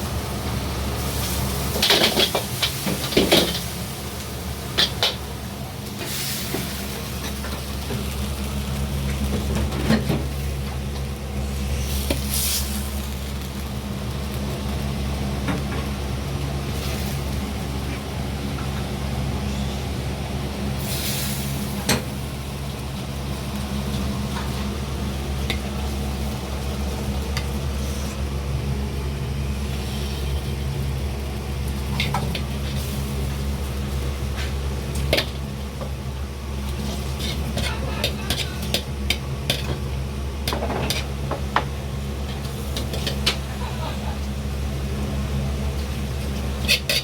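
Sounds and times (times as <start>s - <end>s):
food sizzling in a wok: 0.0s - 47.0s
low kitchen hum: 0.0s - 47.0s.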